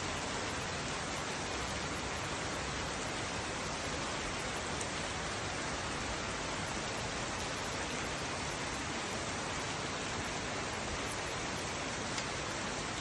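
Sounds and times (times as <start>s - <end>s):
rain falling on streets and rooftops: 0.0s - 13.0s.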